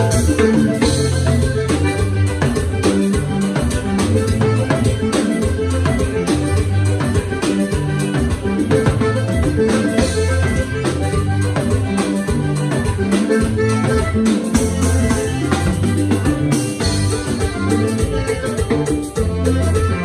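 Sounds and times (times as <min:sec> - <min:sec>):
bass: 0:00.0 - 0:20.0
button accordion melody: 0:00.0 - 0:20.0
drums keeping a beat: 0:00.0 - 0:20.0.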